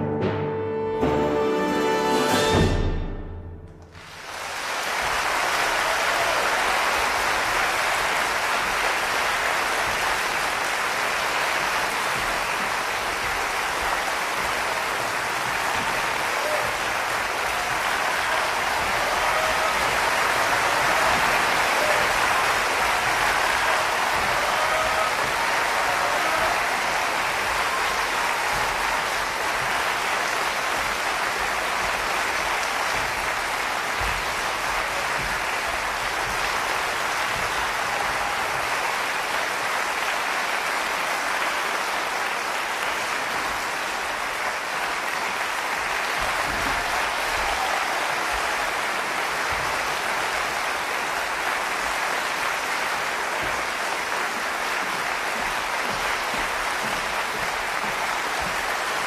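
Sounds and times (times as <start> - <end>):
audience applauding: 3.8 - 59.0.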